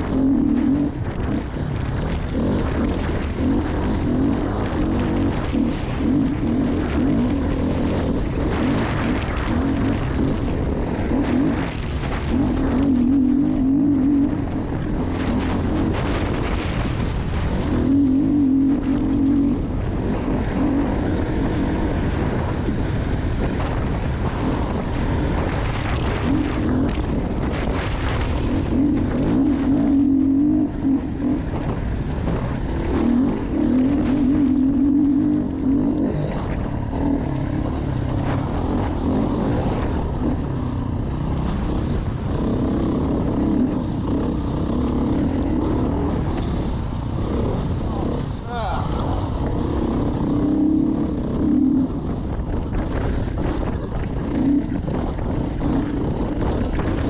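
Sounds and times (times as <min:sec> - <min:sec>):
dirt bike engine revving: 0:00.0 - 0:57.0
wind on microphone: 0:00.0 - 0:57.0.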